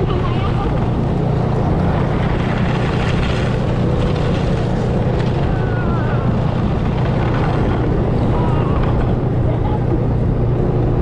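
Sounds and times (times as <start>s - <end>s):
snowmobile engine drone: 0.0s - 11.0s.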